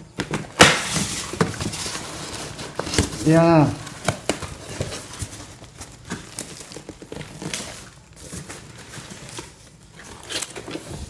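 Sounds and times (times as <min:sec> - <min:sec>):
cardboard box rustling: 0:00.9 - 0:11.0.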